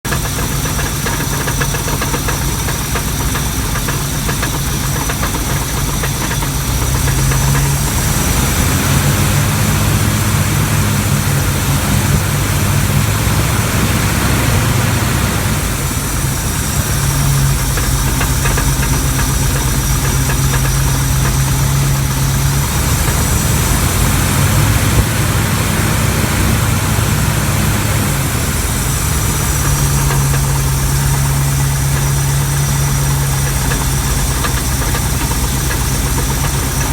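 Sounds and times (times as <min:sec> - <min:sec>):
engine idling: 0:00.0 - 0:36.9
fast steady engine knock: 0:00.0 - 0:36.9.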